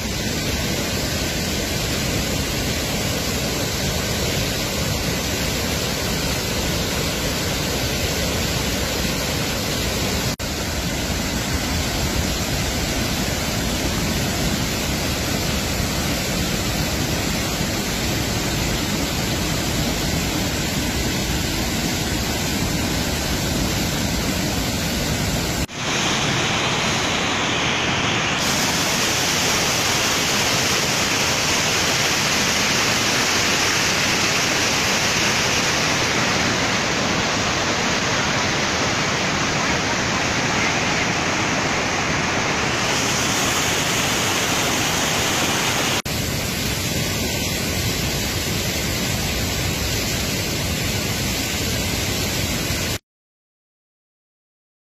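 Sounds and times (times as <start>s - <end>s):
floodwater rushing: 0.0s - 53.0s
waterfall hissing rush: 0.0s - 53.0s.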